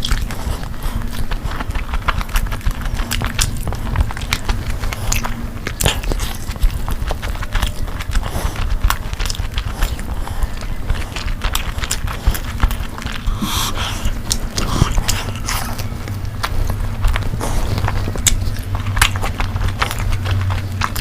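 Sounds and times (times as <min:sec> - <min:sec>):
mouth clicks: 0:00.0 - 0:21.0
person chewing food: 0:00.0 - 0:21.0.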